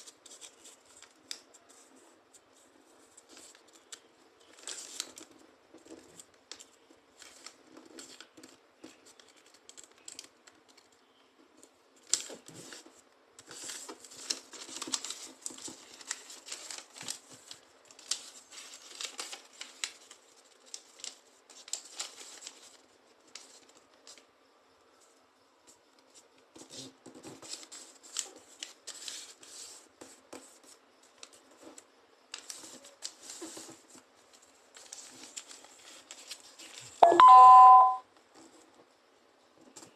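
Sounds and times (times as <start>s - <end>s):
paper rustling and crinkling: 0.0s - 24.3s, 25.7s - 37.0s.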